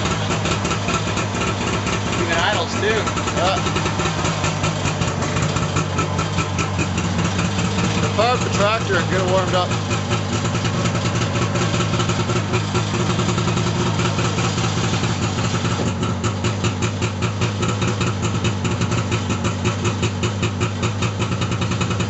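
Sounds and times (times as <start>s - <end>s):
snowmobile engine idling: 0.0s - 22.0s.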